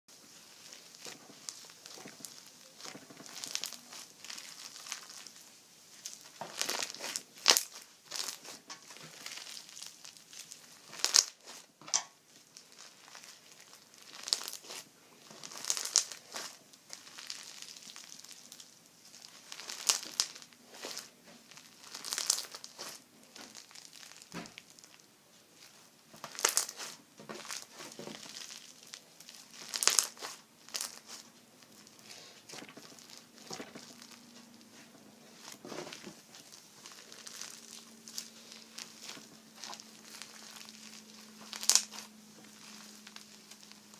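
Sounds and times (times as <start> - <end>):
slime squishing: 0.3 - 43.9.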